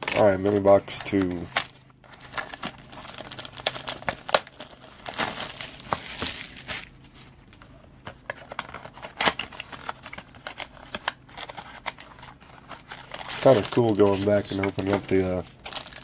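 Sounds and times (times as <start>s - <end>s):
plastic wrapping torn and crinkled: 0.0s - 7.3s, 8.3s - 16.0s.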